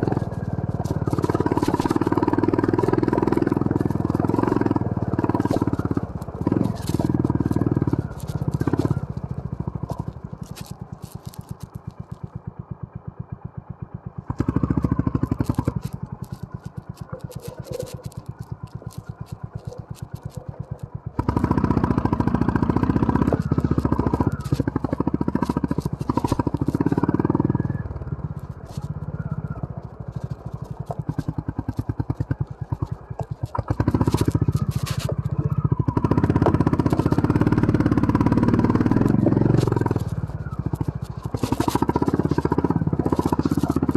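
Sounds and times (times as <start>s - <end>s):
bike knocks and rattles: 0.0s - 12.6s, 14.1s - 43.9s
single-cylinder motorcycle engine: 0.0s - 43.9s.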